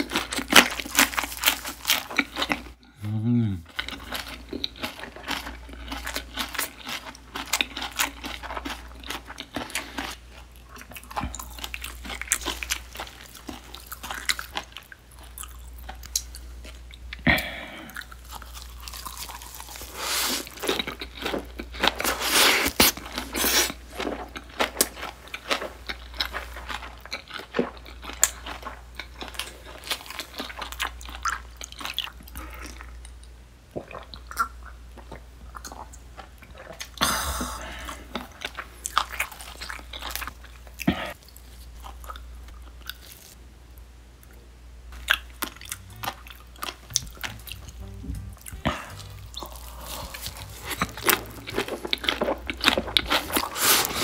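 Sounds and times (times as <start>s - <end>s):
chewing and crunching cabbage: 0.0s - 43.4s, 44.3s - 54.0s.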